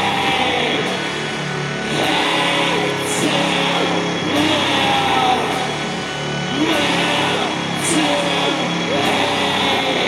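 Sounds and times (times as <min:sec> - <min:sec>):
metal band playing live: 0:00.0 - 0:10.0
sliding pitched guitar notes: 0:00.0 - 0:10.0.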